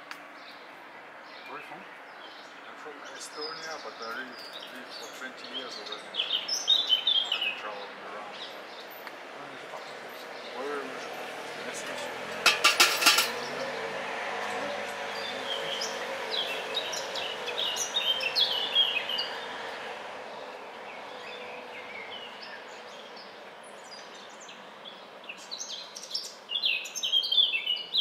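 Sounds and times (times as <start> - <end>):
small birds chirping: 0.0 - 28.0
outdoor background hum: 3.1 - 26.6.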